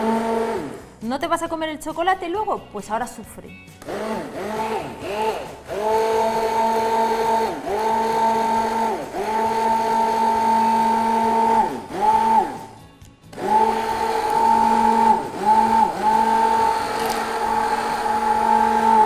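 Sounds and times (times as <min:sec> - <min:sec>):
stick blender motor whining: 0:00.0 - 0:00.8, 0:03.8 - 0:12.7, 0:13.4 - 0:19.0.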